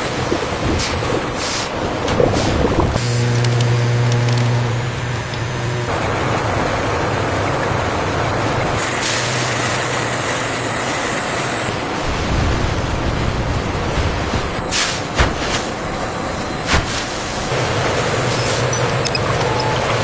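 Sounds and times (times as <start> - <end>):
industrial machinery rumbling: 0.0 - 20.0.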